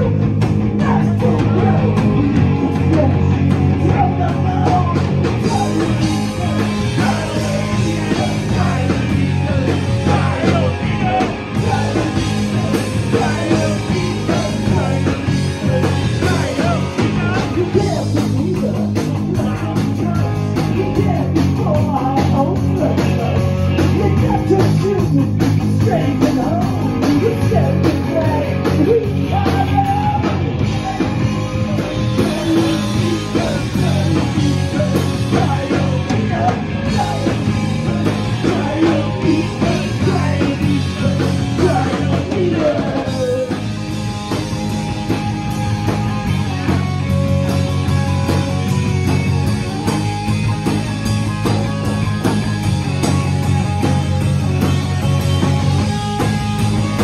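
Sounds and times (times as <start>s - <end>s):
bass guitar: 0.0s - 57.0s
distorted electric guitar: 0.0s - 57.0s
drum kit: 0.0s - 57.0s.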